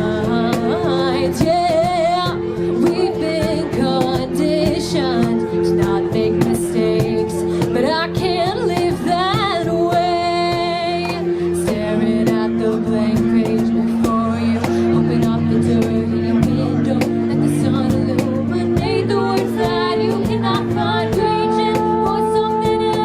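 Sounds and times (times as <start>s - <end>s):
rock band playing chords and guitar: 0.0s - 23.0s
woman singing: 0.0s - 23.0s.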